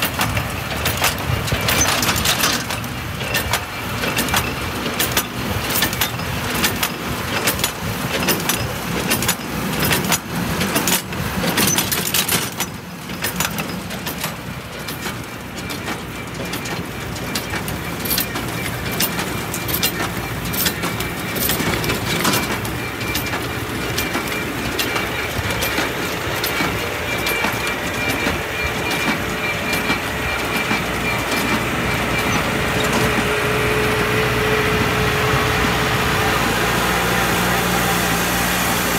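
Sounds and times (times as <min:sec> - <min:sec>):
baler clacks and knocks: 0:00.0 - 0:34.3
tractor engine hum: 0:00.0 - 0:38.9.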